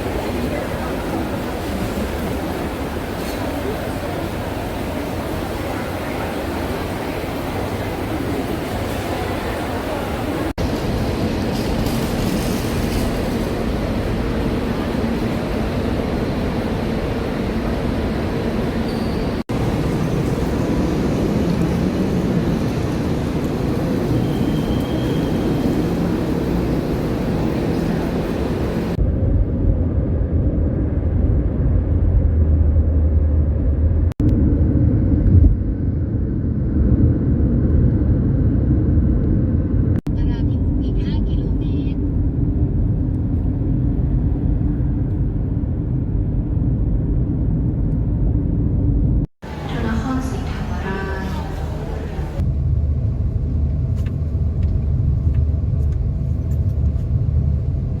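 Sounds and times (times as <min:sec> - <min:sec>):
train carriage rumbling: 0:00.0 - 0:36.8, 0:39.7 - 0:58.0.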